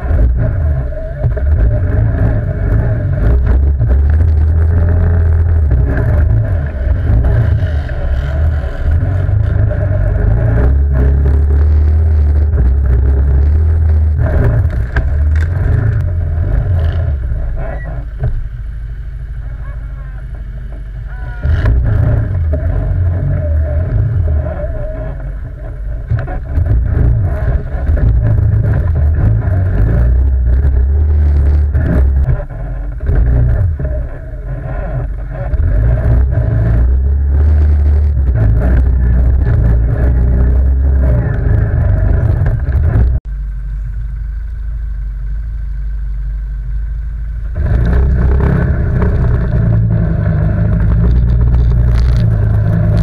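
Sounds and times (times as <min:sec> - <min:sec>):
quad bike engine revving: 0:00.0 - 0:18.5, 0:21.0 - 0:43.2, 0:47.5 - 0:53.0.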